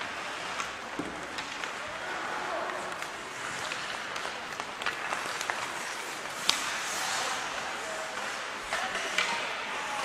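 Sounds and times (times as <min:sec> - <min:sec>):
skates scraping ice: 0:00.0 - 0:10.0
sticks clicking on puck: 0:00.0 - 0:10.0.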